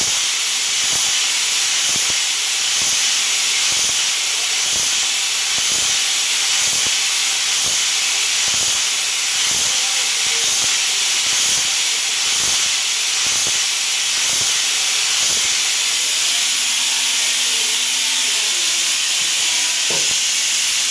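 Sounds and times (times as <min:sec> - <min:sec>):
machine tool stroking with hiss: 0:00.0 - 0:20.9.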